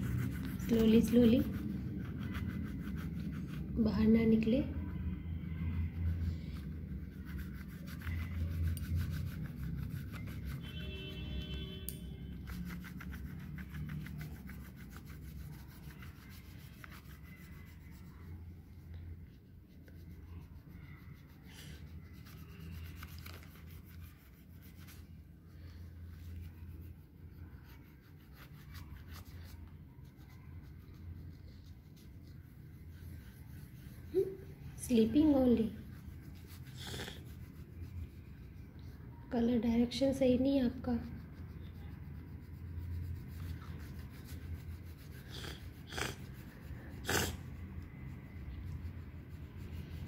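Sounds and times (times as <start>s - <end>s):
crayon rubbing on paper: 0.0s - 11.6s, 12.2s - 50.0s
low steady hum: 0.0s - 50.0s.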